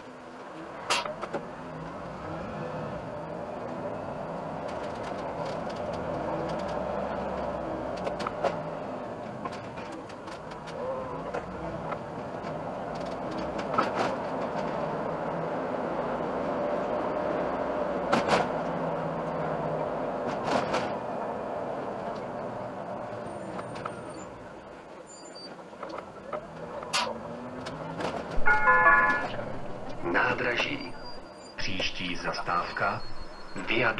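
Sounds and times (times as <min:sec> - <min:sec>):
bus engine and road noise: 0:00.0 - 0:33.9.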